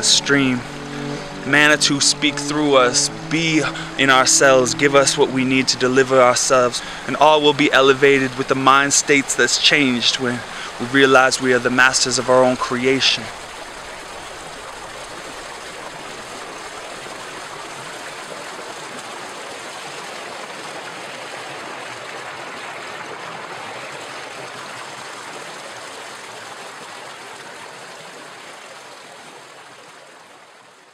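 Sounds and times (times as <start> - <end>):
water rushing over rocks: 0.0 - 30.8.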